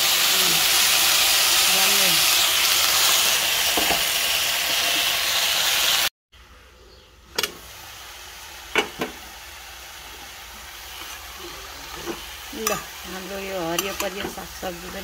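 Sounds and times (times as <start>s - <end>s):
vegetables sizzling in a pan: 0.0s - 6.1s, 7.4s - 15.0s.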